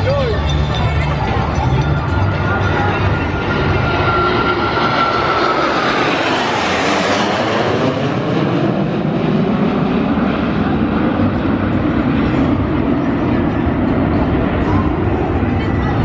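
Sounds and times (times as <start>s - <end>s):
aircraft engine passing by: 0.0s - 16.0s
high engine whine: 0.0s - 16.0s.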